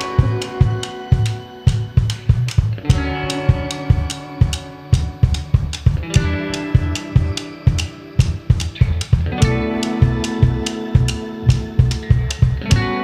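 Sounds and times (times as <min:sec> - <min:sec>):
drum kit kick and snare: 0:00.0 - 0:13.0
guitar and bass chords: 0:00.0 - 0:13.0.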